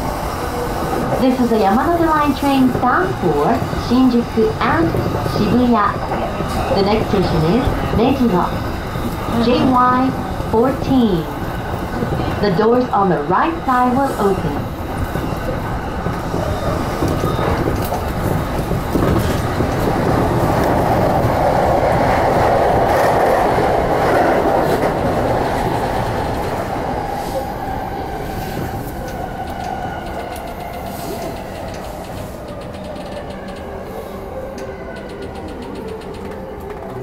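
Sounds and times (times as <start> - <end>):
train rumble from inside: 0.0 - 37.0.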